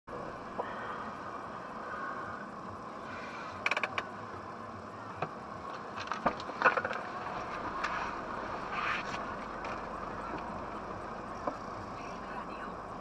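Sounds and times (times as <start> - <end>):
car hum from inside cabin: 0.1 - 13.0.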